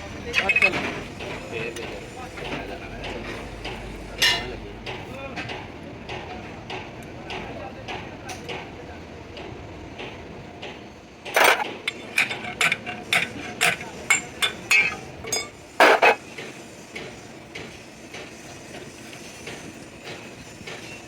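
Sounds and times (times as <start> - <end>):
tools knocking on metal parts: 0.3 - 8.8, 9.4 - 18.4.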